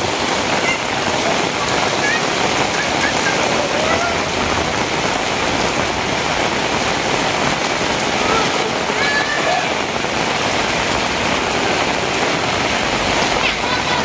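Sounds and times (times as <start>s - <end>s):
heavy rain hissing: 0.0s - 14.0s.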